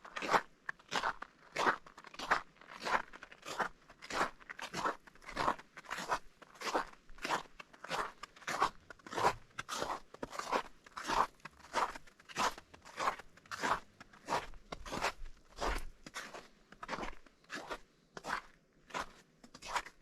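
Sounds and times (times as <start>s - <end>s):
footsteps crunching on snow: 0.3s - 20.0s.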